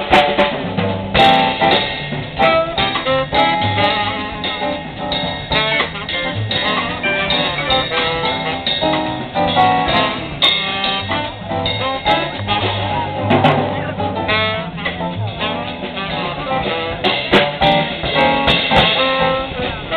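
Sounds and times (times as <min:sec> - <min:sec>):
jazz combo playing: 0:00.0 - 0:19.9
guitar melody: 0:01.1 - 0:19.9.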